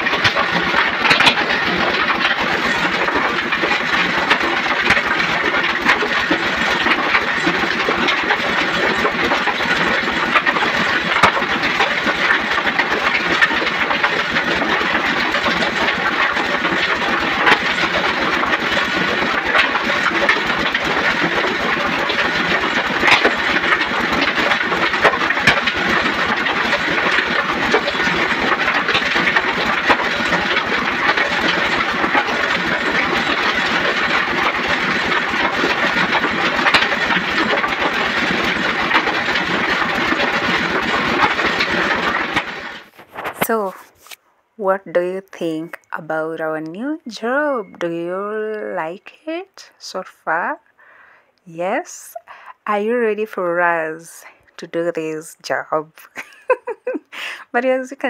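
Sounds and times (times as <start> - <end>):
engine running with rattle: 0.0 - 44.2, 44.8 - 58.0.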